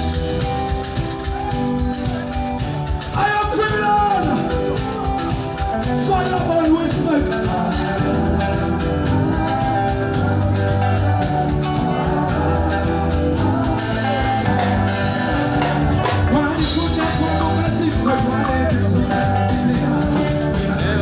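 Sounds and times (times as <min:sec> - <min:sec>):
live band music: 0:00.0 - 0:21.0
person singing: 0:00.0 - 0:21.0.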